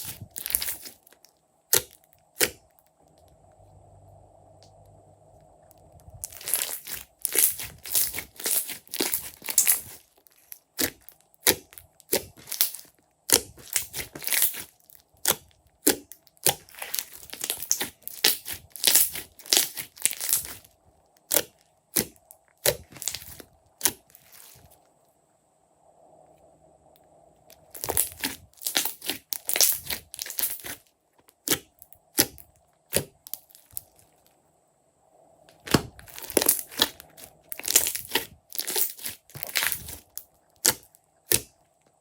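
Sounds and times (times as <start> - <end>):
slime crackling and popping: 0.0 - 3.2, 5.9 - 24.6, 27.5 - 34.0, 35.5 - 41.5.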